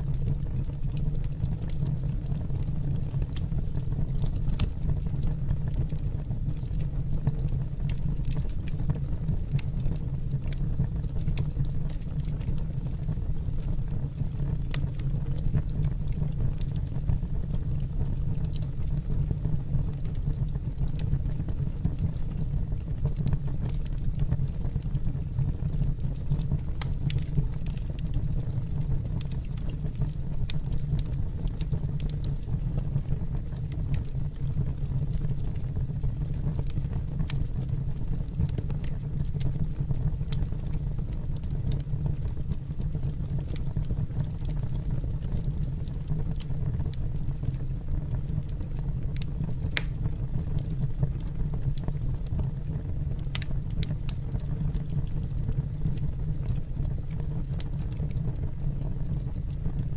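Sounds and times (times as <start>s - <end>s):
fire crackles: 0.0s - 59.9s
wood fire rumbling: 0.0s - 59.9s.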